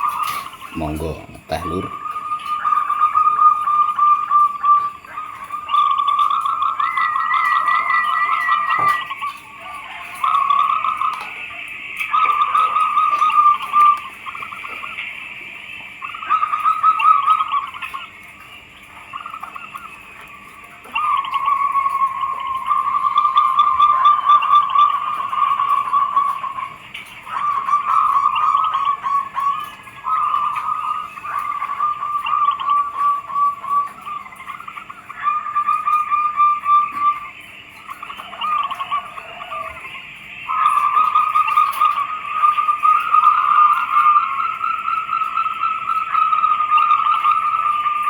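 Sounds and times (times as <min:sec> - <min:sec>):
dove cooing: 0:00.0 - 0:48.0
high bird chirps: 0:00.0 - 0:48.0.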